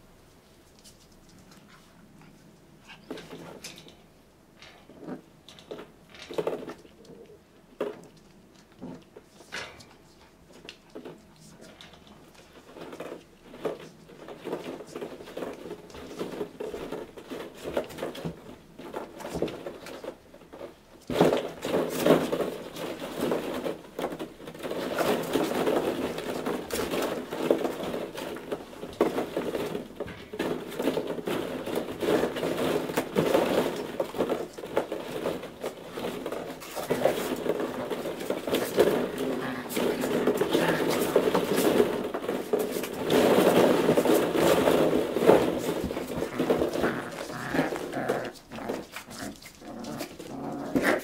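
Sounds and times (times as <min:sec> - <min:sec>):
plastic balls clattering and rustling: 0:00.0 - 0:51.0.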